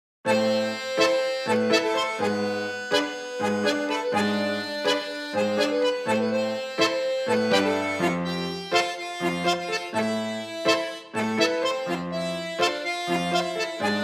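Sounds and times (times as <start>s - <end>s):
accordion playing accented chords: 0.3s - 14.0s.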